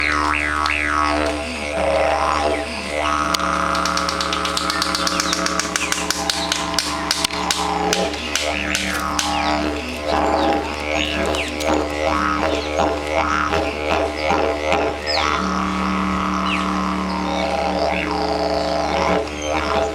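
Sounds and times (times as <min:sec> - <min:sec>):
didgeridoo drone: 0:00.0 - 0:19.9.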